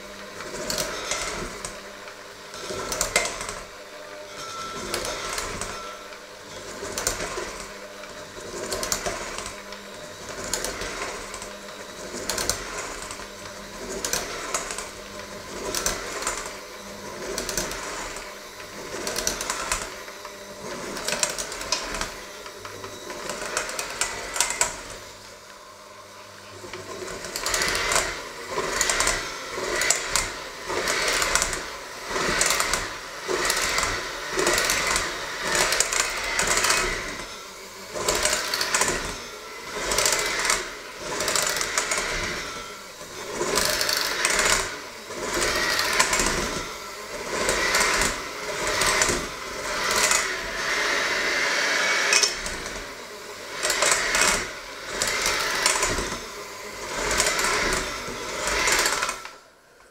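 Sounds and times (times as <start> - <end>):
electric hand mixer whirring: 0.0 - 59.9.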